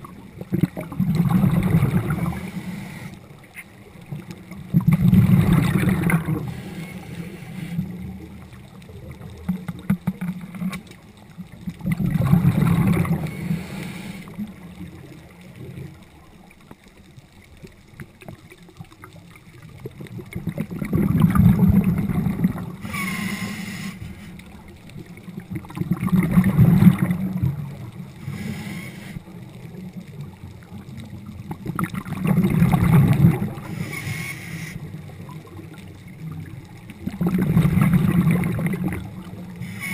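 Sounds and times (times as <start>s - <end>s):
exhaled bubbles underwater: 0.0s - 34.2s, 34.8s - 39.9s.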